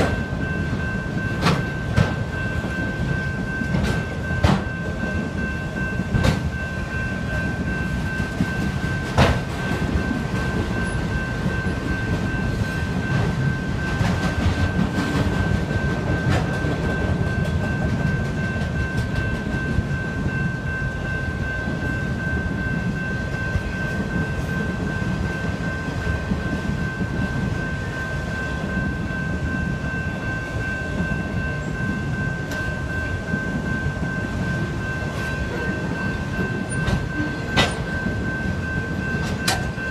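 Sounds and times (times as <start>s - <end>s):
crossing bell ringing: 0.0s - 39.9s
train wheels rumbling on rail: 0.0s - 39.9s.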